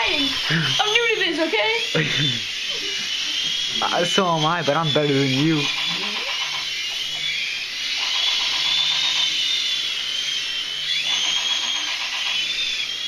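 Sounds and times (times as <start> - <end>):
electric rc helicopters whining: 0.0 - 13.0.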